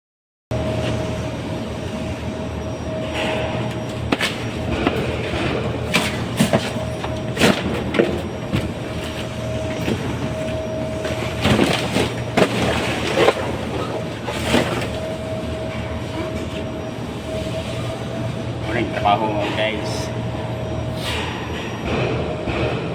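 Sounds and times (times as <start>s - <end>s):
mechanical hum: 0.5s - 22.9s.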